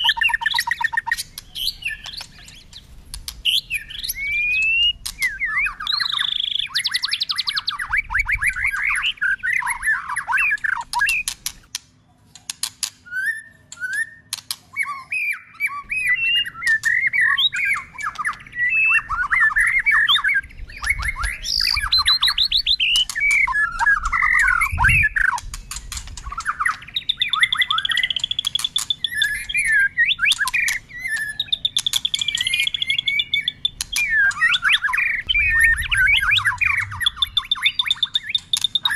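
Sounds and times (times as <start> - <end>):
bird singing whistled song: 0.0 - 11.4, 12.3 - 38.9.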